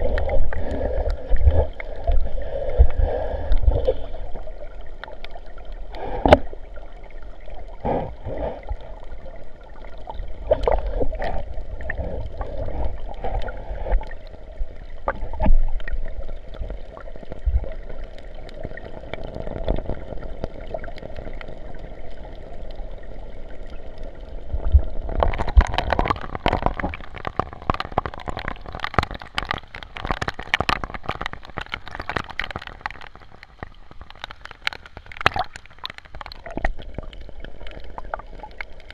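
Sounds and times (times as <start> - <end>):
water splashing: 0.0 - 22.2, 24.4 - 38.9
underwater gurgling and sloshing: 0.0 - 38.9.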